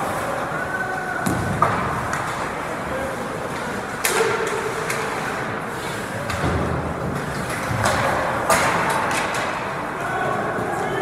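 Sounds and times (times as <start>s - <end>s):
rumble of rink boards: 0.0s - 11.0s.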